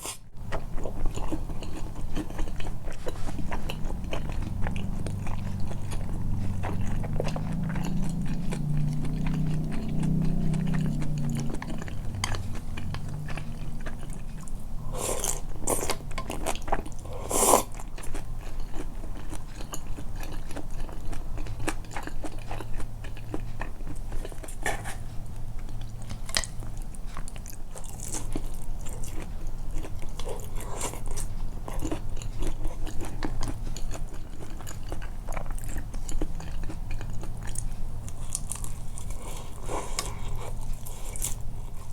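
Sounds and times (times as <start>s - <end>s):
soft wet chewing: 0.0s - 41.9s.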